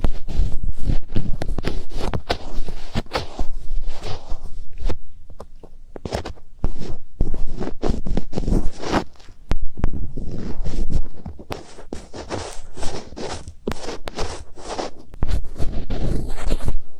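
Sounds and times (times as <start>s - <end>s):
fingertips scratching microphone: 0.0s - 16.9s.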